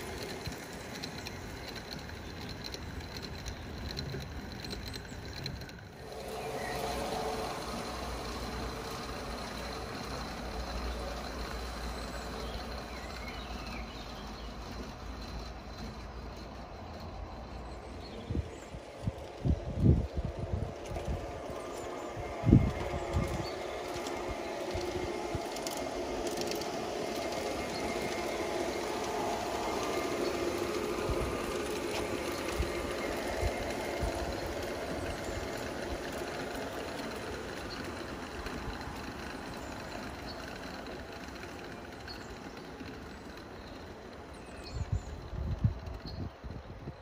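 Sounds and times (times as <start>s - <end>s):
model train passing: 0.0s - 47.0s.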